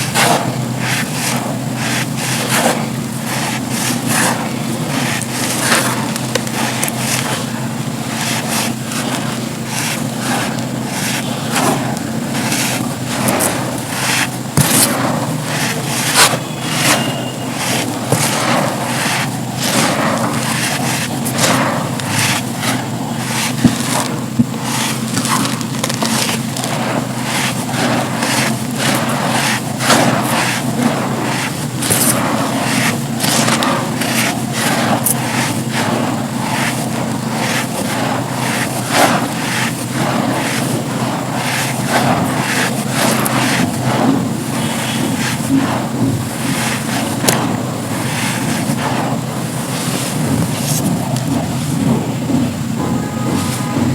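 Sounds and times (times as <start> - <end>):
sand slabs crunching by hand: 0.0 - 53.9.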